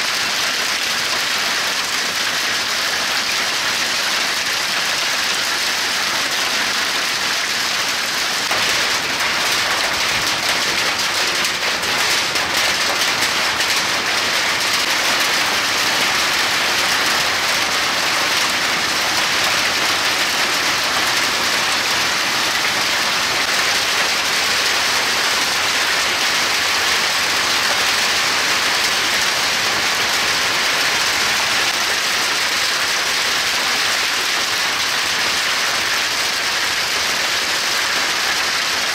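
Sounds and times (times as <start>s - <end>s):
hail pelting pavement and vehicles: 0.0s - 38.9s.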